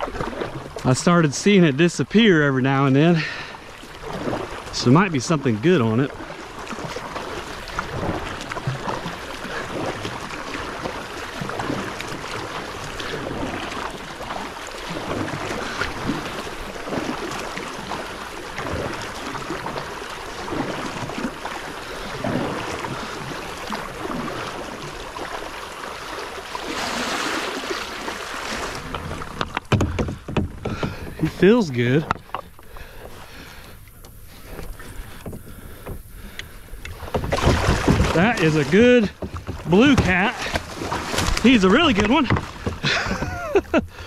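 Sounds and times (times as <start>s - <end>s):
kayak paddle splashing: 0.0s - 44.0s
water washing along hull: 0.0s - 44.0s.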